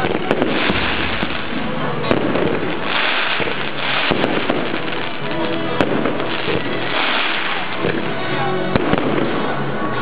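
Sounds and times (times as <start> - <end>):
firework bangs: 0.0 - 10.0
firework crackle: 0.0 - 10.0
music playing: 0.0 - 10.0.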